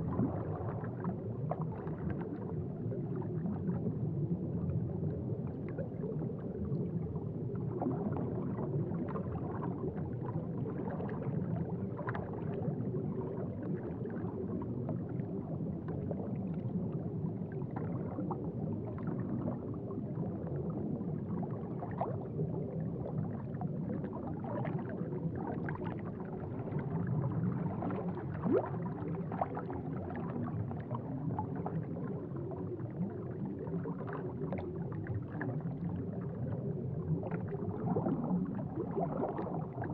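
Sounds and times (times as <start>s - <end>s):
aquarium water bubbling and gurgling: 0.0s - 39.9s.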